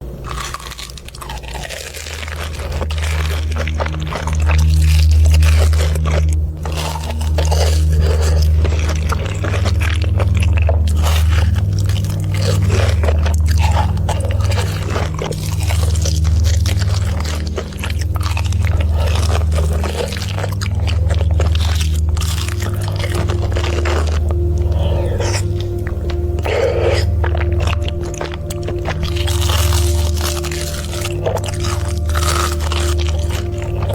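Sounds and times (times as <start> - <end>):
crunching fried chicken: 0.0 - 33.9
low bass drone: 1.1 - 33.9.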